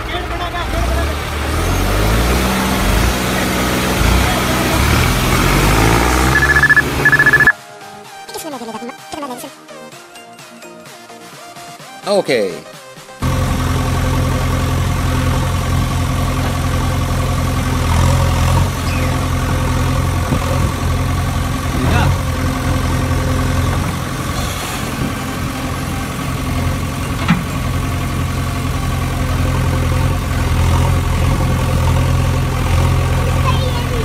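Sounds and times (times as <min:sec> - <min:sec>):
engine idling: 0:00.0 - 0:07.5, 0:13.2 - 0:34.0.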